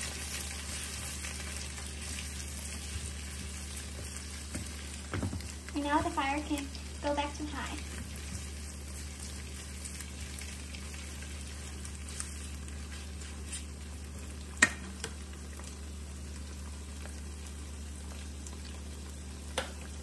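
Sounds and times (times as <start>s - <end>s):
oil sizzling in a frying pan: 0.0s - 20.0s.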